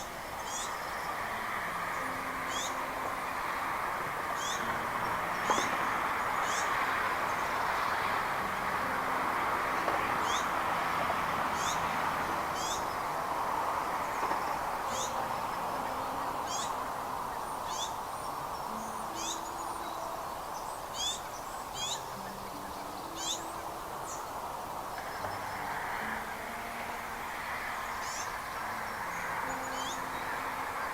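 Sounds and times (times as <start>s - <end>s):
rushing background noise: 0.0s - 30.9s.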